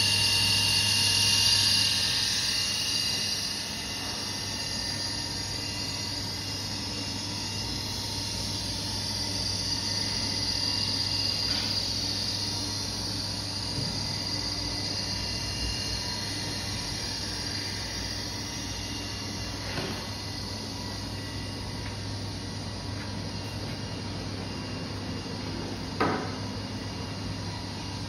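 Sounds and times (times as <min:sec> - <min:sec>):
cnc router droning: 0:00.0 - 0:28.0.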